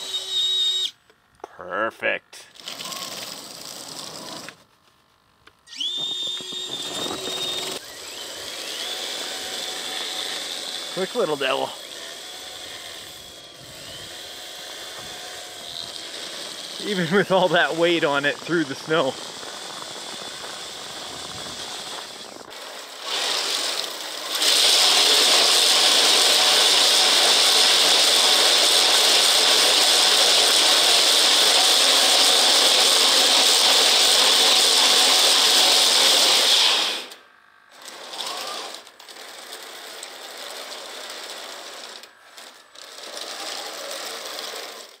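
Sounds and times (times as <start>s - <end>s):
electric motor and gears whirring: 0.0s - 45.0s.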